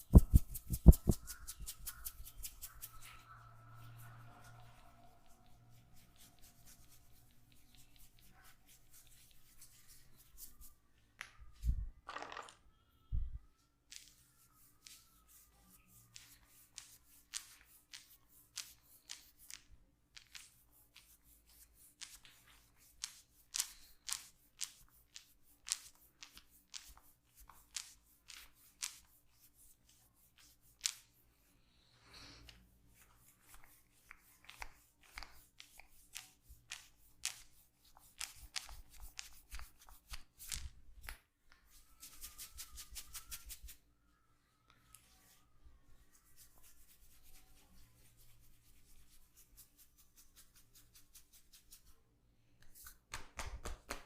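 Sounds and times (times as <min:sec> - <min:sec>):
hands massaging skin: 0:00.0 - 0:10.8, 0:13.9 - 0:31.5, 0:32.1 - 0:43.8, 0:46.1 - 0:52.0, 0:52.6 - 0:54.0.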